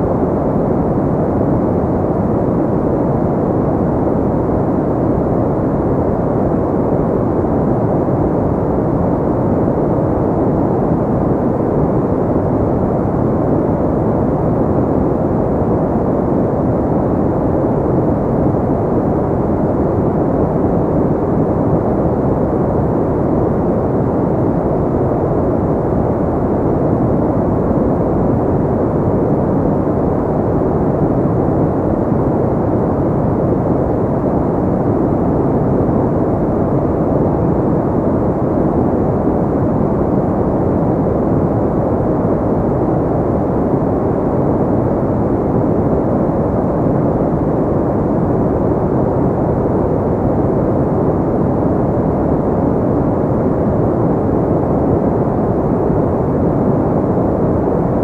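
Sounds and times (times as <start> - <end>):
deep muffled brown noise: 0.0 - 58.0.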